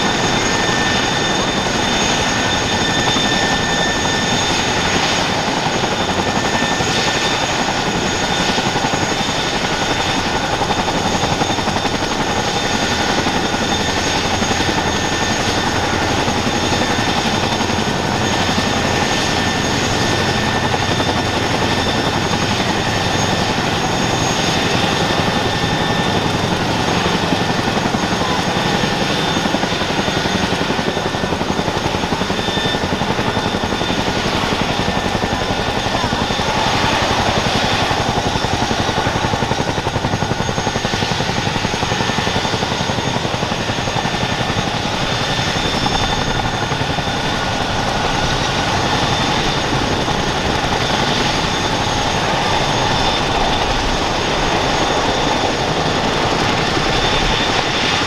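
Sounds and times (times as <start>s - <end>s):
helicopter rotor noise: 0.0s - 58.0s
high turbine whine: 0.0s - 58.0s.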